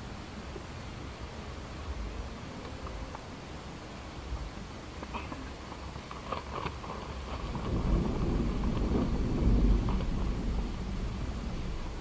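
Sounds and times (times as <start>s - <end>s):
wind gusting over microphone: 0.0s - 12.0s
tarp fabric crackling: 1.5s - 12.0s.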